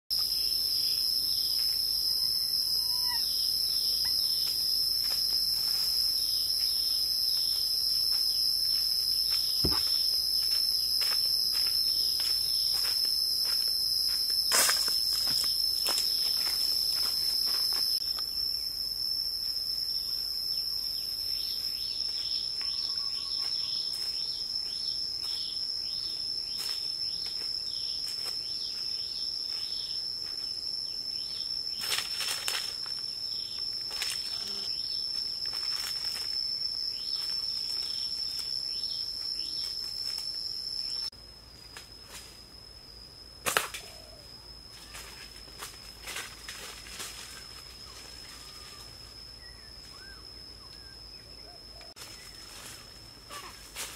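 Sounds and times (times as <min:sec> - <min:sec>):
insects droning: 0:00.1 - 0:53.9.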